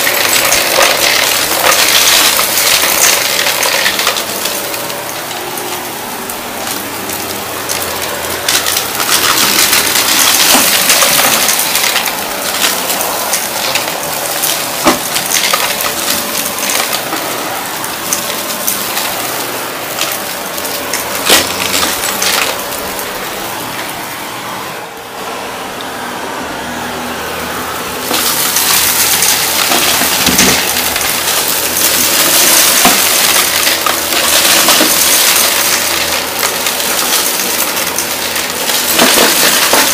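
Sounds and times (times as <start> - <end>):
debris crackling in vacuum: 0.0 - 24.9, 27.4 - 39.9
vacuum cleaner motor: 0.0 - 39.9.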